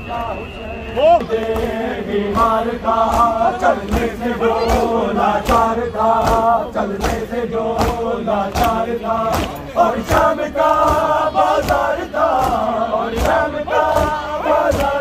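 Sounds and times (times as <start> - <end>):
men chanting: 0.0 - 15.0
chest-beating slaps: 1.2 - 15.0.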